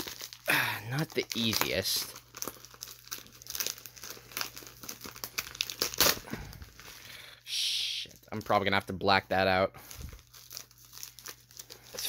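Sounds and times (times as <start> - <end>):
plastic package crinkling: 0.0 - 7.2, 8.1 - 12.0.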